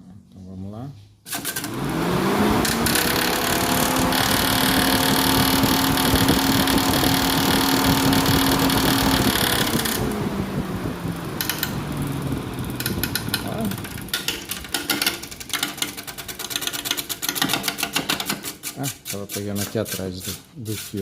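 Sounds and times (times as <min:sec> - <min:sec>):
electric cooling fan humming: 0:01.3 - 0:21.0.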